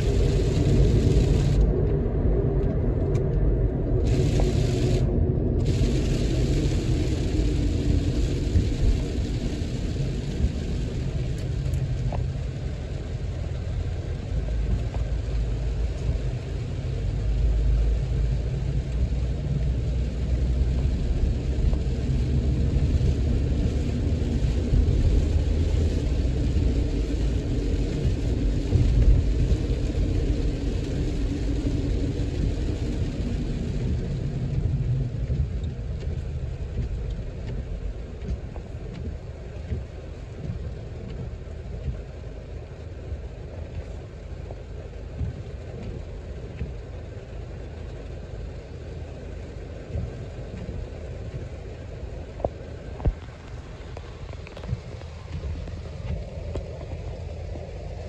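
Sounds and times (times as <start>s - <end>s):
tyres hissing on wet pavement: 0.0s - 2.6s, 3.8s - 58.0s
road rumble inside moving car: 0.0s - 58.0s.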